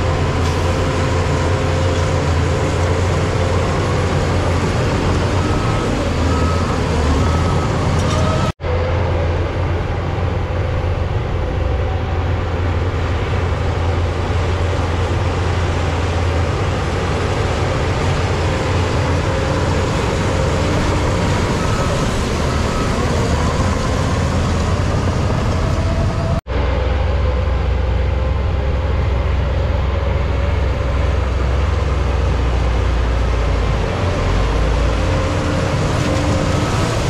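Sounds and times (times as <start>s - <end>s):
bulldozer diesel engine rumbling: 0.0s - 37.0s.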